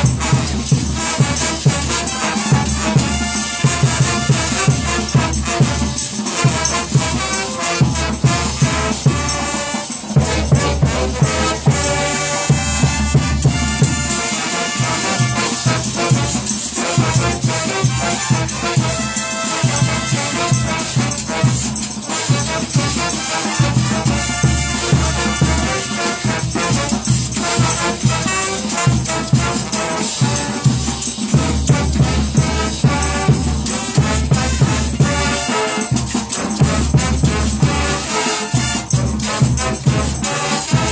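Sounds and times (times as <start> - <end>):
brass band playing cumbia: 0.0 - 40.9
trumpets and trombones chords: 0.0 - 40.9.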